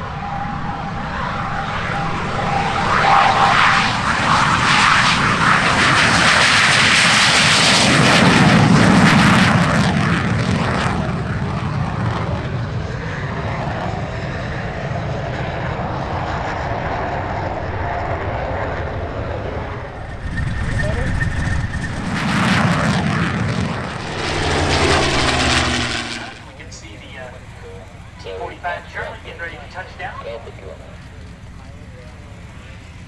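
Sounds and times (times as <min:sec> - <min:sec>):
jet engine at takeoff: 0:00.0 - 0:33.0.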